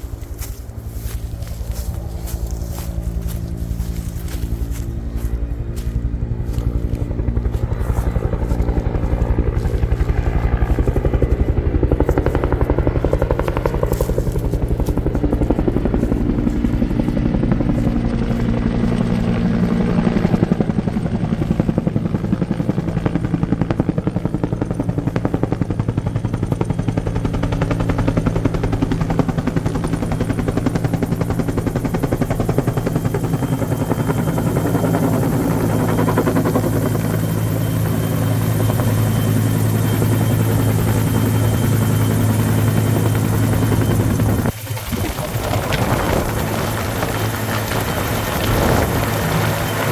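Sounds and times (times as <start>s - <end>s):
helicopter rotor and turbine: 0.0s - 49.9s.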